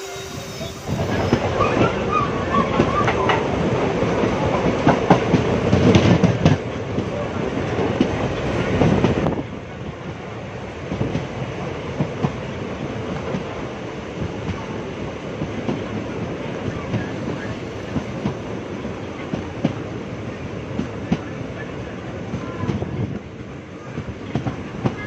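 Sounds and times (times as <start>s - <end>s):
train rolling noise: 0.0s - 25.0s.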